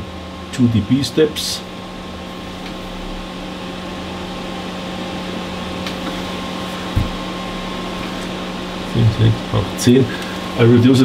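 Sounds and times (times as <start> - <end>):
cooling fans humming: 0.0 - 11.0.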